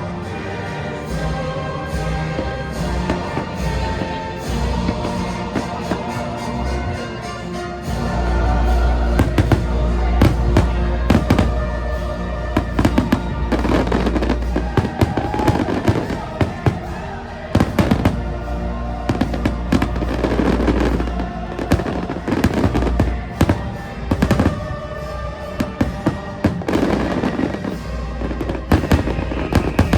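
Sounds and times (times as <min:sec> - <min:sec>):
loud music: 0:00.0 - 0:29.9
fireworks bangs and crackles: 0:01.9 - 0:07.2, 0:07.9 - 0:29.9.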